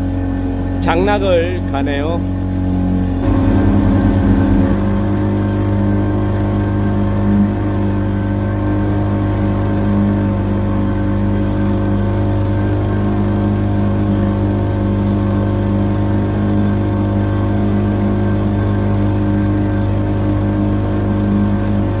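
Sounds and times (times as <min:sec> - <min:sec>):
boat motor droning: 0:00.0 - 0:22.0.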